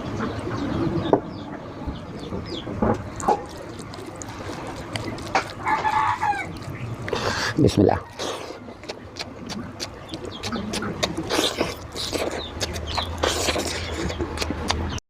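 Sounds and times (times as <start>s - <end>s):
animal calls: 0.0s - 15.0s
wet chewing and lip smacks: 2.2s - 15.0s.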